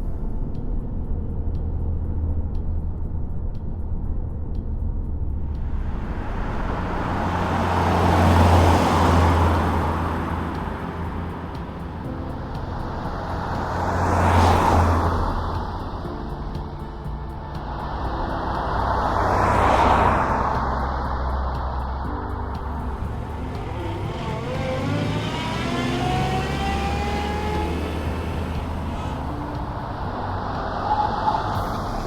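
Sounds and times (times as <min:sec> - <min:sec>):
car driving past: 0:05.4 - 0:32.0.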